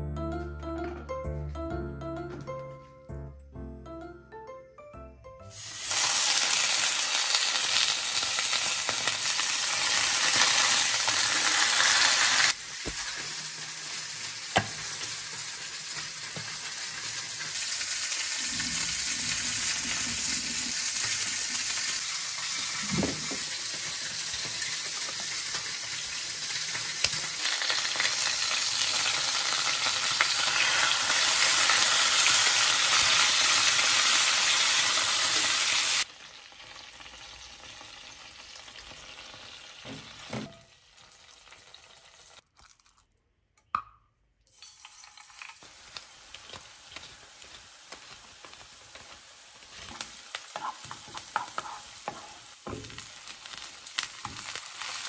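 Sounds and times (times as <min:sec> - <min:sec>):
chicken sizzling in hot oil: 0:05.5 - 0:42.4, 0:44.5 - 0:55.0.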